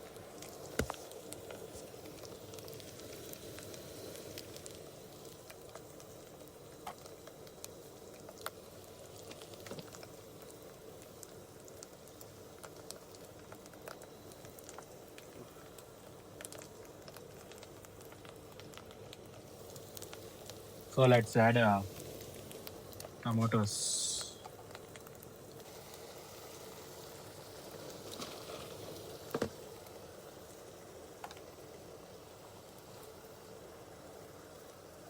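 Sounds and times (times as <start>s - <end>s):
masala sizzling in a pan: 0.0s - 35.0s.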